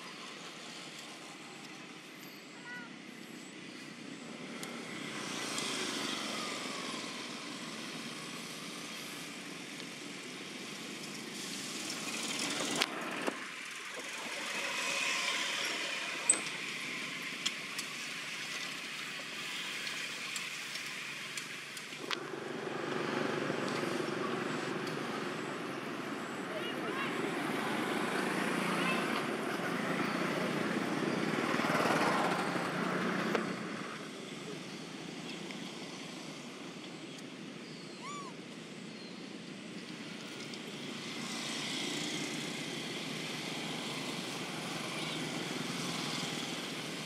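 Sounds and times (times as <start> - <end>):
road traffic passing by: 0.0 - 47.0.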